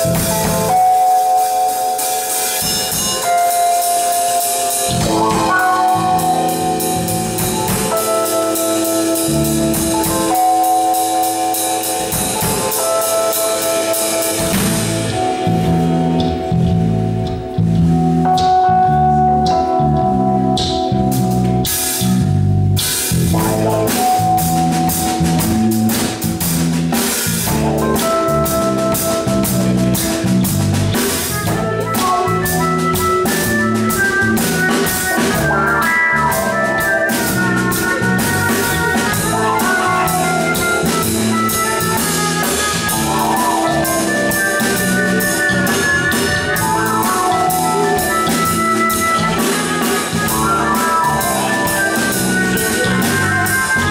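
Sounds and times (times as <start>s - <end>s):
drum kit with busy cymbals: 0.0s - 53.9s
electric bass groove: 0.0s - 53.9s
funk band playing: 0.0s - 53.9s
melodic lead line: 0.0s - 53.9s.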